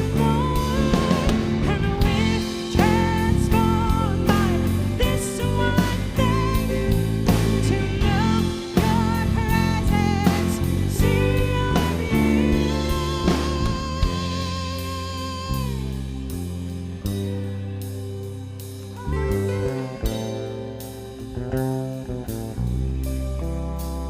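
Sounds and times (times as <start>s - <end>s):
person singing: 0.0s - 16.6s, 18.9s - 22.2s
bass: 0.0s - 24.0s
drum kit: 0.0s - 24.0s
guitar: 0.0s - 24.0s.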